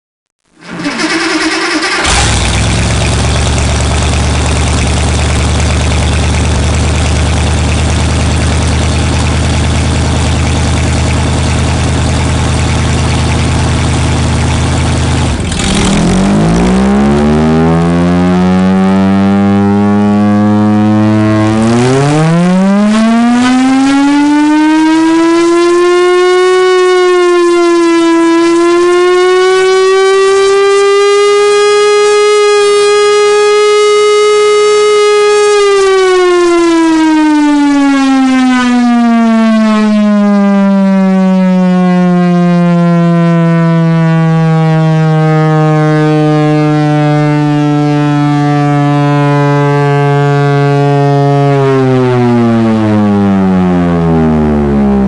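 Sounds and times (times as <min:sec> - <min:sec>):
engine running steadily: 0:00.5 - 0:55.0
air raid siren wailing: 0:00.6 - 0:55.0.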